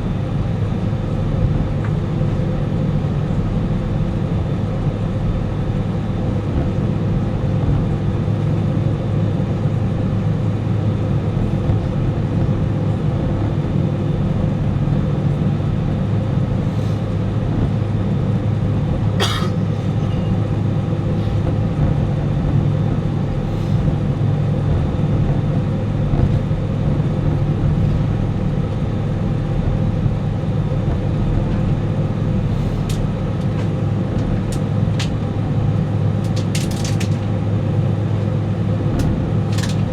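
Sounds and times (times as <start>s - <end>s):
jet engines humming in cabin: 0.0s - 39.9s.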